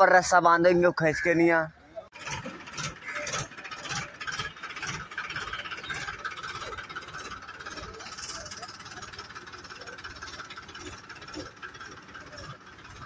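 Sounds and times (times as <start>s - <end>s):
diesel tractor engine clattering: 2.1s - 13.0s.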